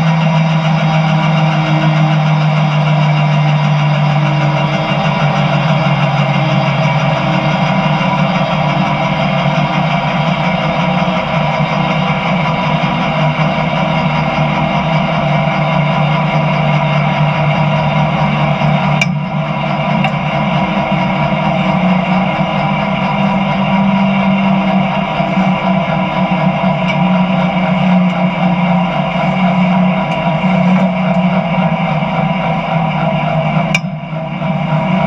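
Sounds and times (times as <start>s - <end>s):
jet engine turbine whine idling: 0.0s - 35.0s.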